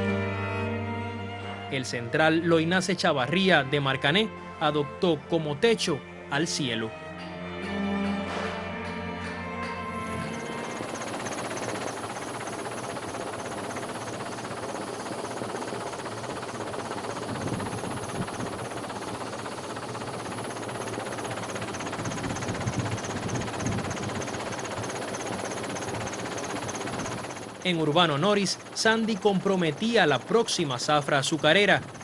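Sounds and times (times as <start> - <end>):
steady mechanical noise: 1.8 - 32.0.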